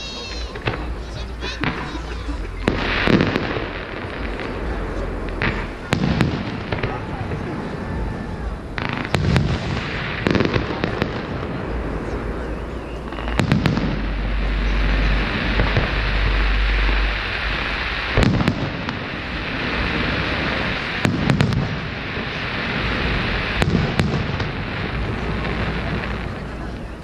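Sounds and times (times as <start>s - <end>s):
fireworks bursting with sharp bangs: 0.0s - 27.0s
deep rumble: 0.5s - 27.0s.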